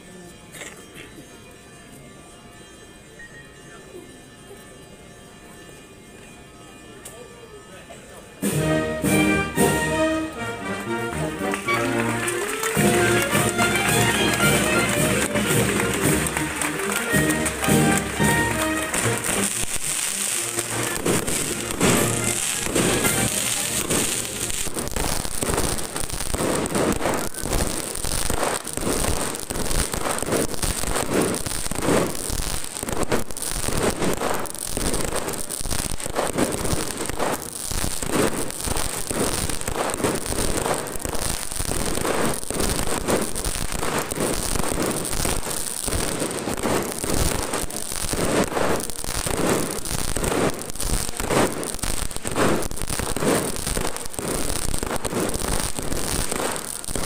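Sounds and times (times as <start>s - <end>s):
firecrackers popping: 8.4s - 57.0s.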